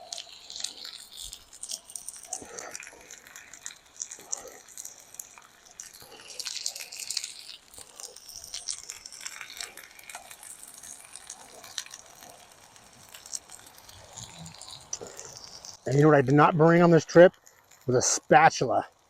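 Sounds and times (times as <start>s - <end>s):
crinkling and rustling: 0.0s - 19.0s.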